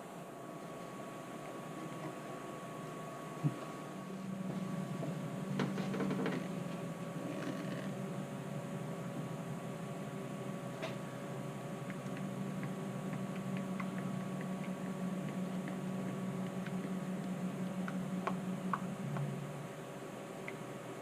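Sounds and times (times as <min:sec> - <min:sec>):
heater humming: 0:00.0 - 0:21.0.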